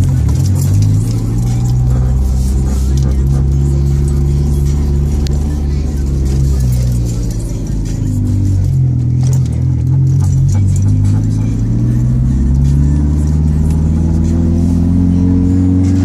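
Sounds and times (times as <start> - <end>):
car engine from inside cabin: 0.0 - 16.0
music playing: 0.0 - 16.0.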